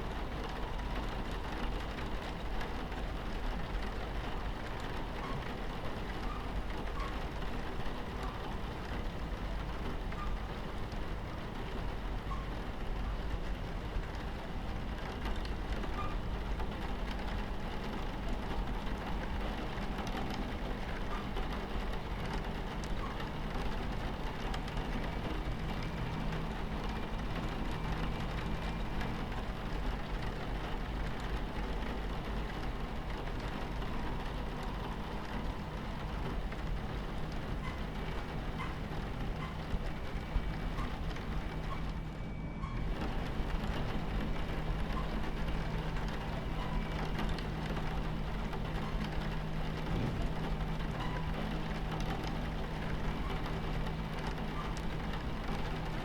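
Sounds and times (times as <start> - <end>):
rain on window: 0.0 - 56.0
train rumbling on tracks: 0.0 - 56.0.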